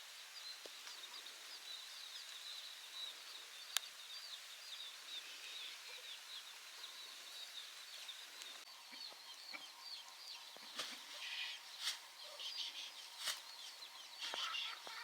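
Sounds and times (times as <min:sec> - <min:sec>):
faint steady hiss: 0:00.0 - 0:15.0
small birds chirping: 0:00.0 - 0:15.0.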